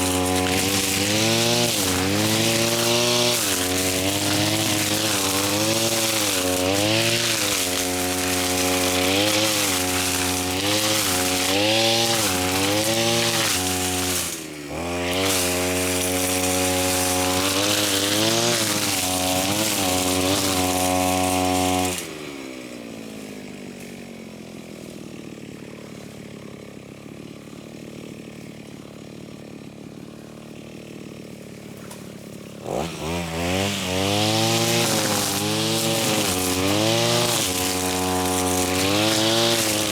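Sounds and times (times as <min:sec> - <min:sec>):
lawn mower engine cutting grass: 0:00.0 - 0:39.9.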